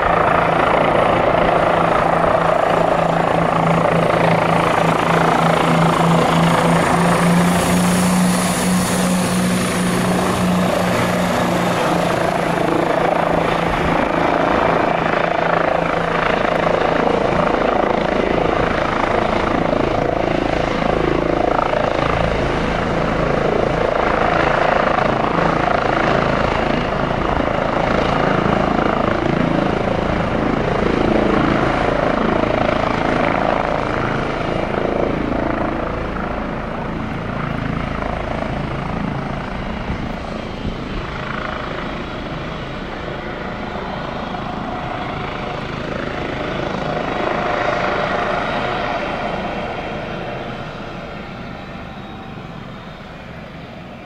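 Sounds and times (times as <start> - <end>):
helicopter rotor: 0.0 - 54.0
high turbine whine: 0.0 - 54.0.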